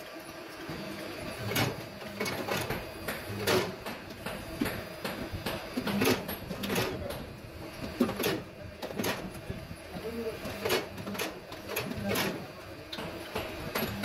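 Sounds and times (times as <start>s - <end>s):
faint machine hum: 0.0s - 14.0s.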